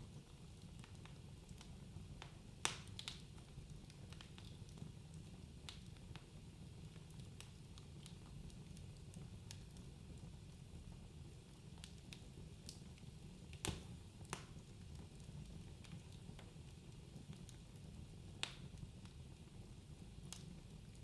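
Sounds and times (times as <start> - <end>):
fire crackling and popping: 0.1 - 21.0.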